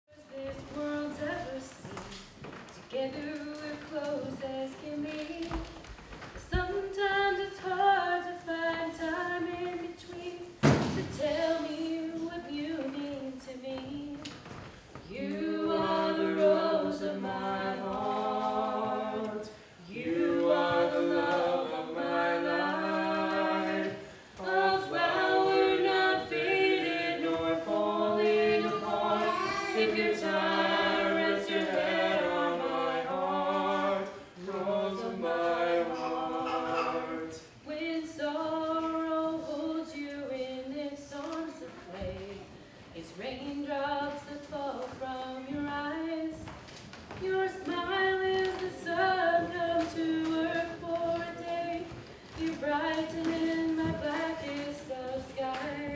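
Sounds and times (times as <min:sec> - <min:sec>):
a cappella group singing: 0:06.5 - 0:13.9, 0:15.0 - 0:46.4, 0:47.2 - 0:55.9.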